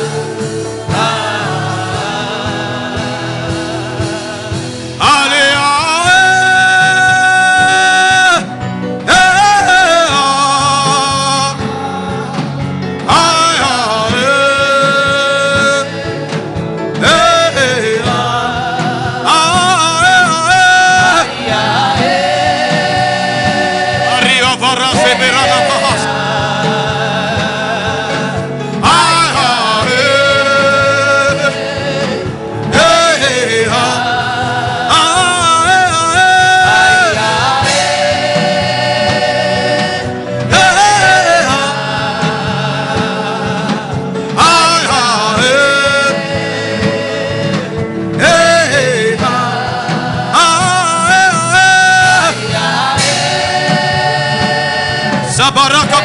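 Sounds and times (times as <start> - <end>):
steady musical accompaniment: 0.0 - 56.0.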